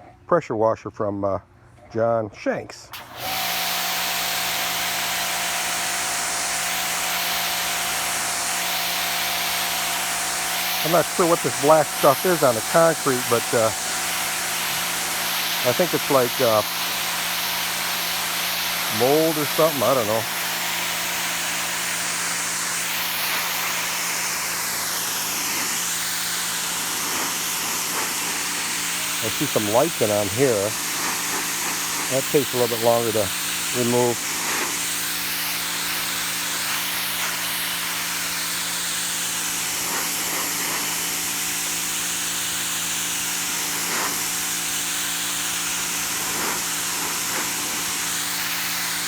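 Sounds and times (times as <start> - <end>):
pressure washer jet hissing: 2.9 - 49.0
motor hum: 3.0 - 49.0.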